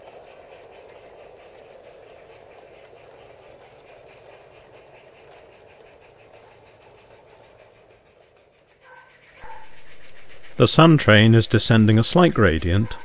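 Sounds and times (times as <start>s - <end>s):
model train running on track: 0.0s - 13.0s
quick even ticking: 0.2s - 13.0s.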